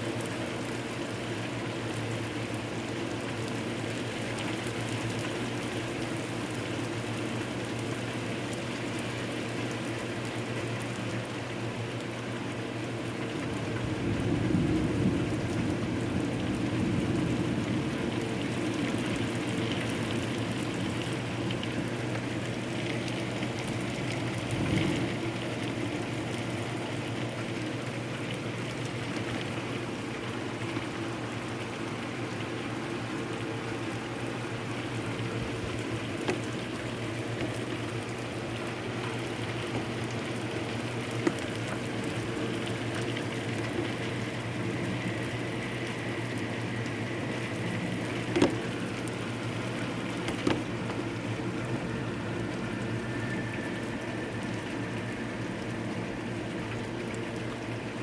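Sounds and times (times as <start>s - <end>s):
hard rain falling: 0.0s - 58.0s.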